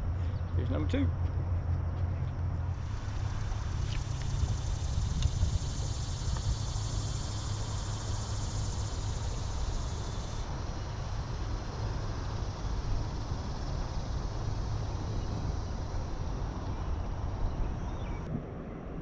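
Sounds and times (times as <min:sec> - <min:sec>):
wind buffeting microphone: 0:01.4 - 0:19.0.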